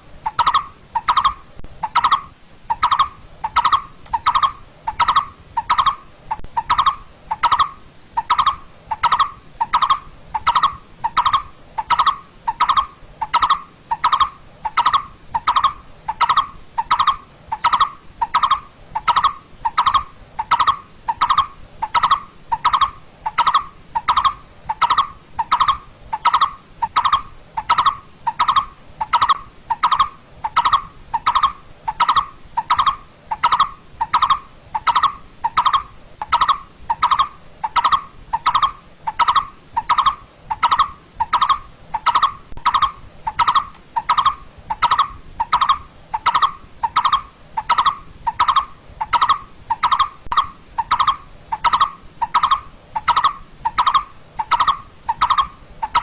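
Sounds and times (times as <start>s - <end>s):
barbet calling: 0.2s - 56.0s.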